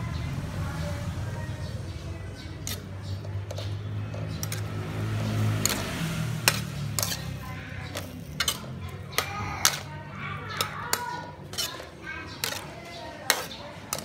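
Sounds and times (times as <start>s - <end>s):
metal spatula scraping a wok: 2.5s - 14.0s.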